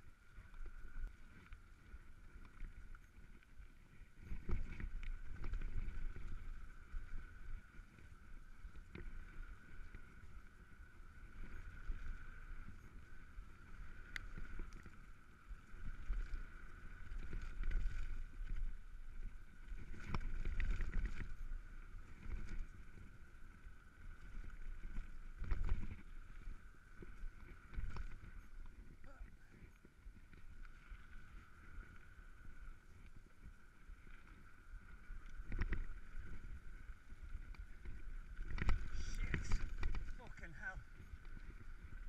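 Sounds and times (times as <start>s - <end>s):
wind rumbling on microphone: 0.0s - 42.0s.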